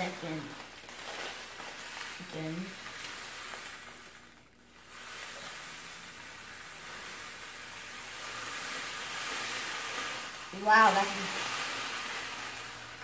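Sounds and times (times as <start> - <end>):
butter and sugar sizzling: 0.0 - 13.0
cornflakes poured from plastic bag: 0.0 - 13.0.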